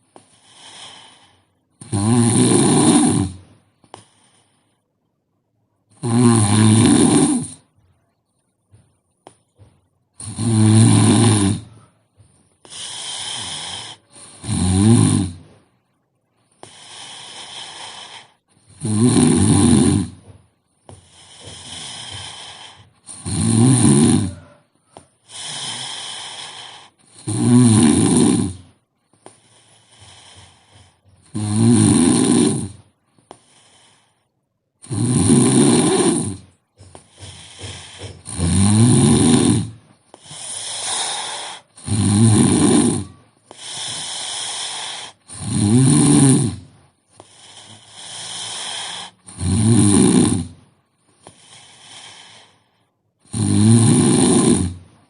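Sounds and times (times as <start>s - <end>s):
quiet breathing: 0.0s - 1.8s, 3.3s - 5.9s, 7.3s - 14.6s, 15.3s - 18.8s, 19.4s - 35.0s, 35.7s - 53.3s
person snoring: 0.0s - 4.7s, 5.9s - 7.7s, 8.7s - 15.6s, 16.5s - 34.2s, 34.8s - 55.0s.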